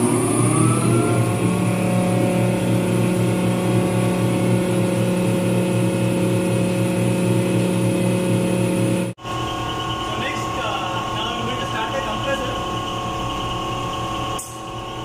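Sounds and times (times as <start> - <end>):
air conditioning fan humming: 0.0 - 15.0.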